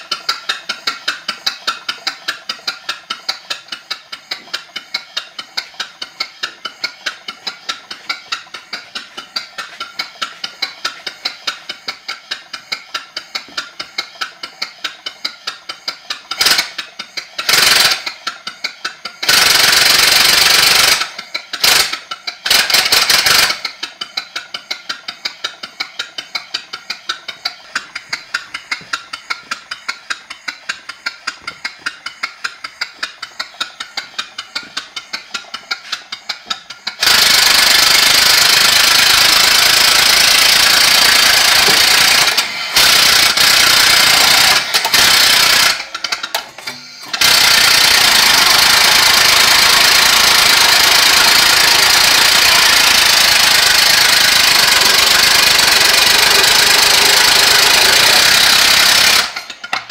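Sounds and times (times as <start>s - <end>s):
air motor chuffing: 0.0s - 59.9s.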